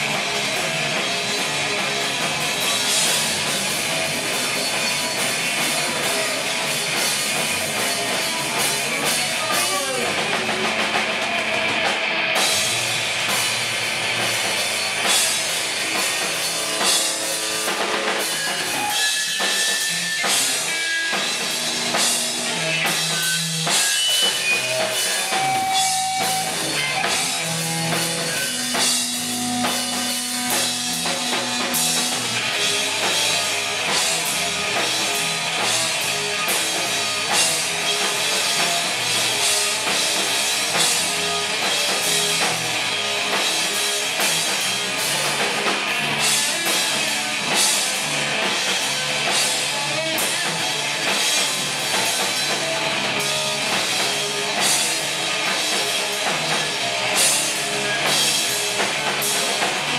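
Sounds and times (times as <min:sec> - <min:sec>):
bass guitar: 0:00.0 - 0:59.9
distorted electric guitar: 0:00.0 - 0:59.9
drum kit: 0:00.0 - 0:59.9.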